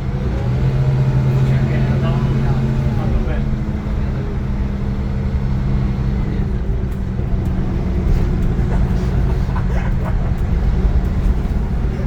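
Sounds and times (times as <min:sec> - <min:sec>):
bus diesel engine droning: 0:00.0 - 0:12.0
bus moving noise: 0:00.0 - 0:12.0.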